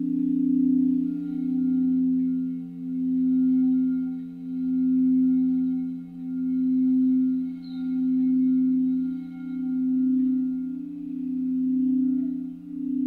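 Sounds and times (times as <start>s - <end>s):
singing bowls ringing: 0.0s - 13.0s.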